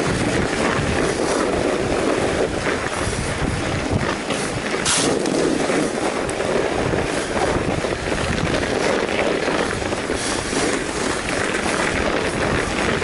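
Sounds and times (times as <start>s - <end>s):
bike tyres rolling over snow: 0.0s - 13.0s
wind on microphone: 0.0s - 13.0s.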